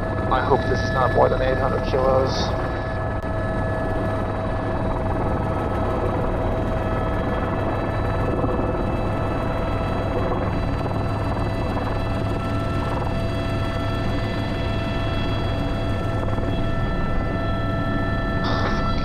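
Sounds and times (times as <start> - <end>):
helicopter turbine whine: 0.0 - 19.0
low rotor drone: 0.0 - 19.0.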